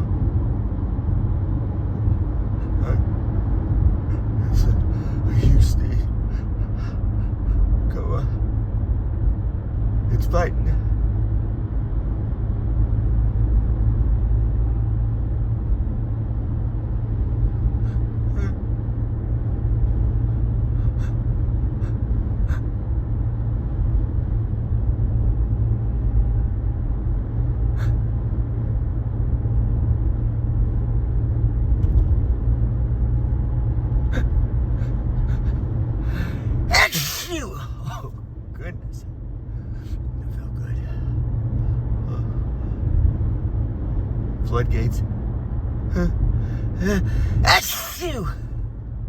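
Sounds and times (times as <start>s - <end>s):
car engine rumble inside cabin: 0.0s - 49.0s.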